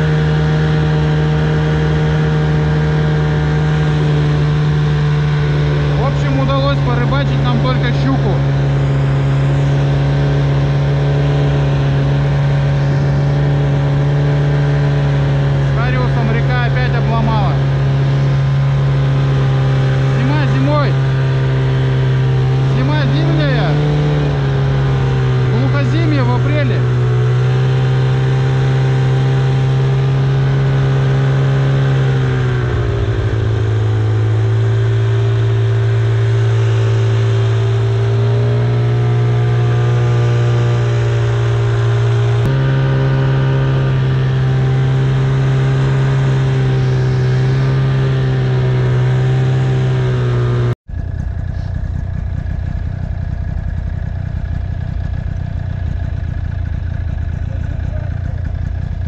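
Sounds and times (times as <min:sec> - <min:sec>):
rough low engine noise: 0:00.0 - 0:59.0
snowmobile engine running: 0:00.0 - 0:59.0.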